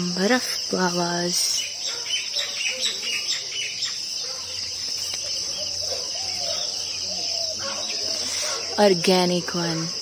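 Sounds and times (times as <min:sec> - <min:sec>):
insects shrilling: 0:00.0 - 0:10.0
small birds chirping: 0:00.0 - 0:10.0.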